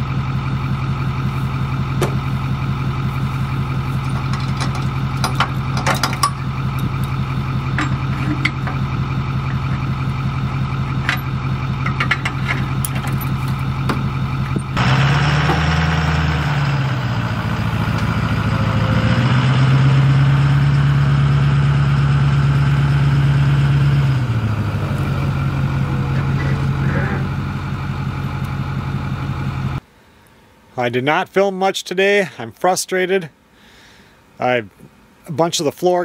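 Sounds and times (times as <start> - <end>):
truck engine idling and revving: 0.0 - 29.9
trailer hitch clanks: 0.8 - 29.8.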